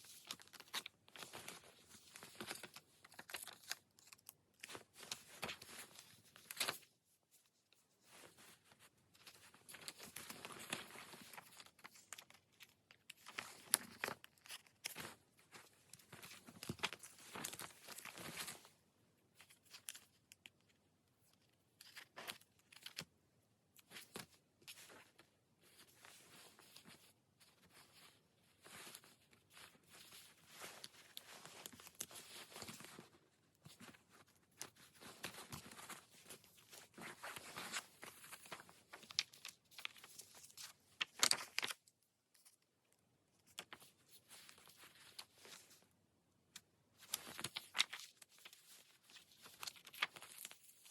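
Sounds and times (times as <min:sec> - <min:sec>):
paper and sticker sheets rustling: 0:00.0 - 0:18.8, 0:23.8 - 0:42.6, 0:43.4 - 0:45.8, 0:46.9 - 0:50.9.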